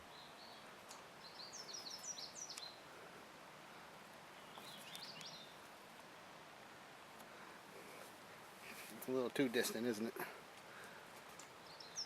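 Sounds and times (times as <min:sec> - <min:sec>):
faint outdoor hiss: 0:00.0 - 0:12.0
songbird singing faintly: 0:00.0 - 0:12.0.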